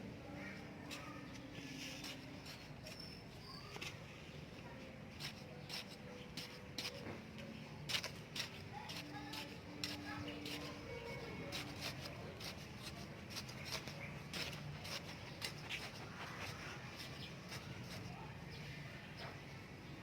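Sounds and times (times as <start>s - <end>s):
clicks and scratching from garden work: 0.1s - 20.0s.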